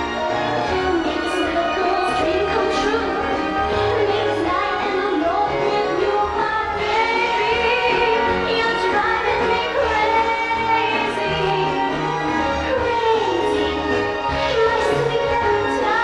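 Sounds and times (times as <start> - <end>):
pop song with woman singing: 0.6 - 16.0.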